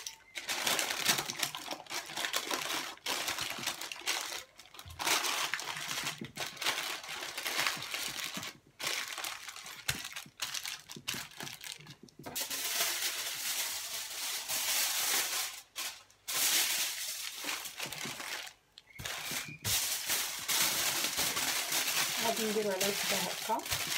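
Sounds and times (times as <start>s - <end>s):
baking paper crinkling: 0.0s - 23.9s.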